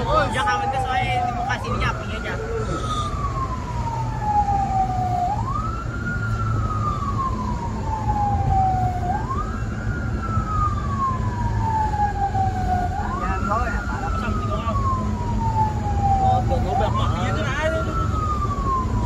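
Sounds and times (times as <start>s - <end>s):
engine and road rumble: 0.0s - 19.0s
wailing siren: 0.0s - 19.0s.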